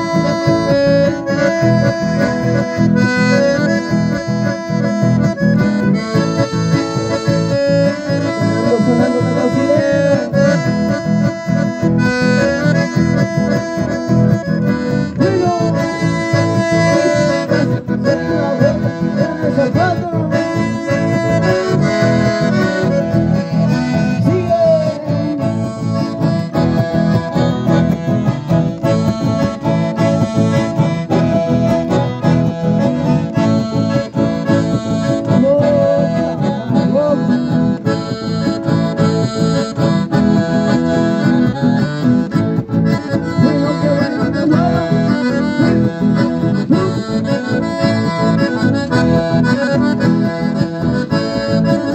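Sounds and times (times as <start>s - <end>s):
button accordions playing dance music: 0.0s - 51.9s
guitar accompaniment: 0.0s - 51.9s.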